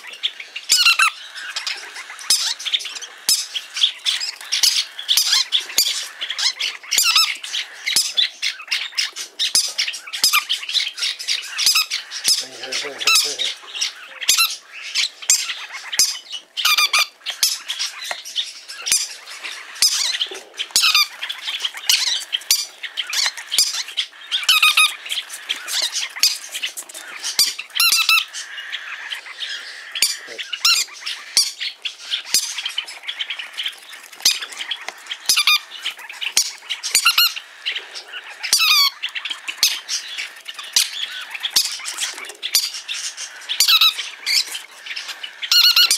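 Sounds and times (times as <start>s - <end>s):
parrot shrill calls: 0.7s - 12.4s, 13.0s - 18.0s, 18.8s - 26.4s, 27.2s - 33.4s, 34.2s - 45.9s.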